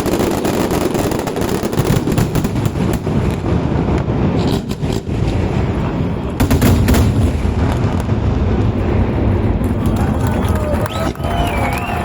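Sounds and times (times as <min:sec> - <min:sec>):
deep fireworks rumble: 0:00.0 - 0:12.0
fireworks bangs and crackles: 0:00.0 - 0:12.0.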